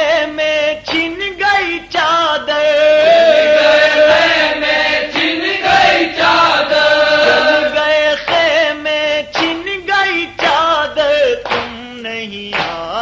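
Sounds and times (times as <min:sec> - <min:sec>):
voices chanting a lament: 0:01.2 - 0:11.9.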